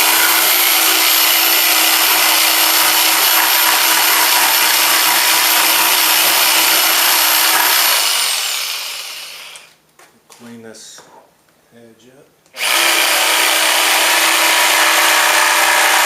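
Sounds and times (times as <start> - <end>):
jigsaw cutting plywood: 0.0 - 9.7, 12.6 - 16.0
saw motor winding down: 0.0 - 9.7, 12.6 - 16.0.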